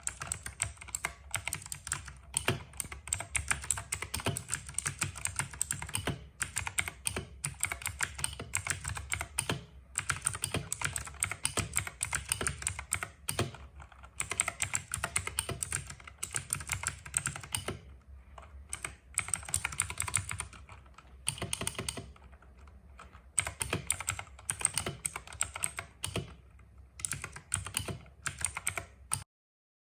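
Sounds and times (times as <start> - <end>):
fast typing on keyboard: 0.0 - 29.3.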